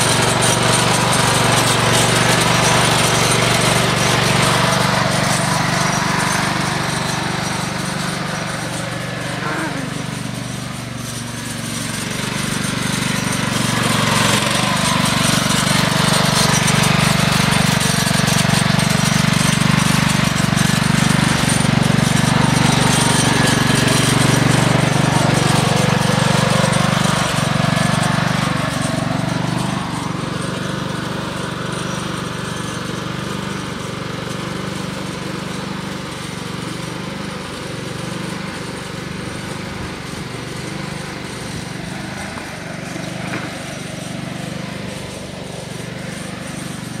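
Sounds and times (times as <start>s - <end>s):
riding lawn mower engine: 0.0s - 47.0s.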